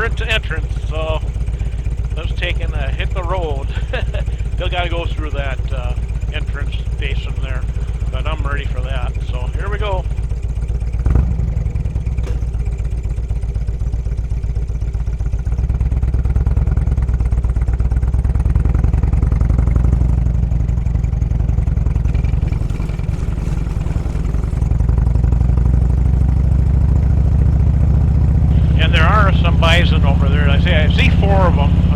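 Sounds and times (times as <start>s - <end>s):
motorcycle engine pulling away: 0.0s - 31.9s.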